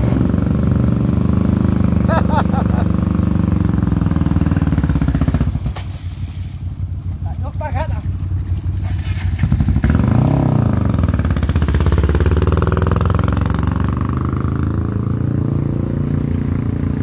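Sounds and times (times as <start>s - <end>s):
atv engine revving: 0.0s - 5.9s, 7.0s - 17.0s.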